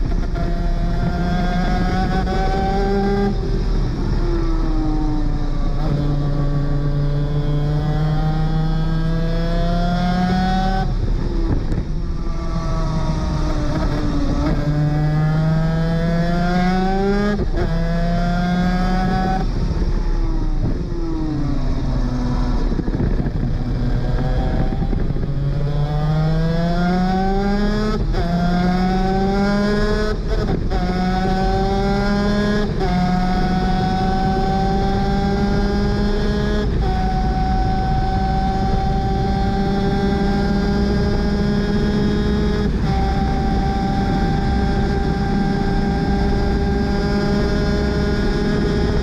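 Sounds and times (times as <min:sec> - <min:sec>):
kart engine racing: 0:00.0 - 0:49.0.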